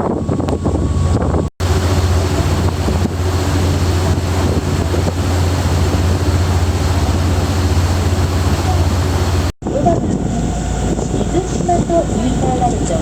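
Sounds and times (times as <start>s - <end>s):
boat engine droning: 0.0s - 13.0s
wind buffeting microphone: 0.0s - 13.0s
water noise: 0.3s - 12.9s.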